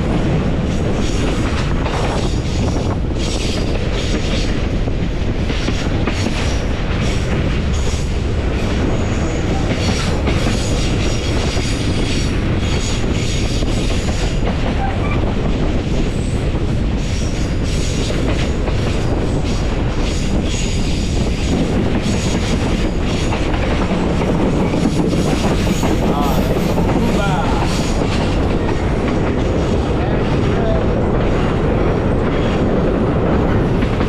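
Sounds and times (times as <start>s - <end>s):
train carriages rumbling: 0.0s - 34.0s.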